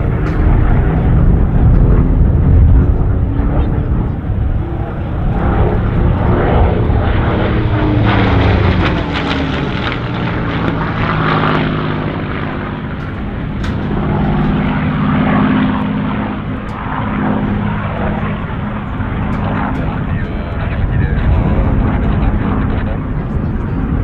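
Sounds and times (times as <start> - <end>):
aircraft engine drone: 0.0 - 24.0.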